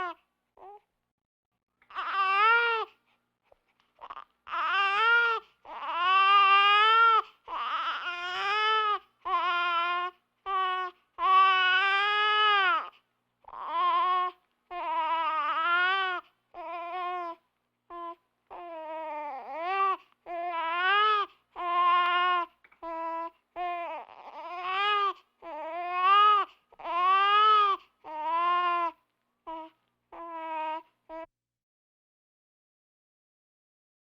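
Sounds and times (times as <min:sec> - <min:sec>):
baby crying: 0:01.9 - 0:03.0, 0:04.0 - 0:31.3.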